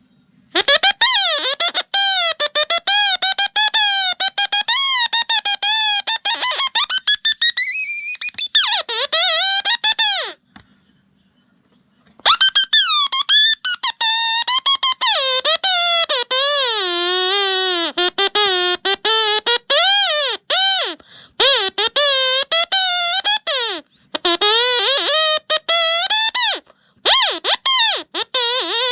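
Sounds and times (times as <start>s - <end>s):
shrill stuttering squeak: 0.6s - 10.4s, 12.2s - 28.9s.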